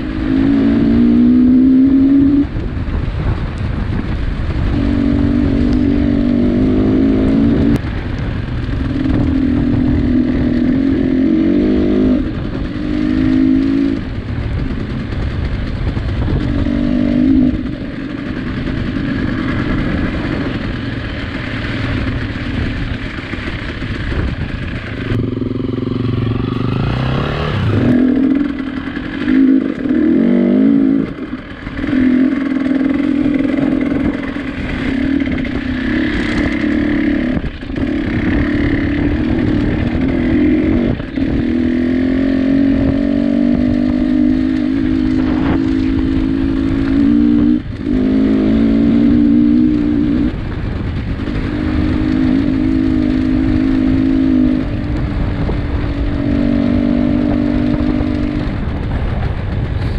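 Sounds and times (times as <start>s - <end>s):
vehicle engine revving high: 0.0s - 3.2s, 4.0s - 14.7s, 16.2s - 59.1s.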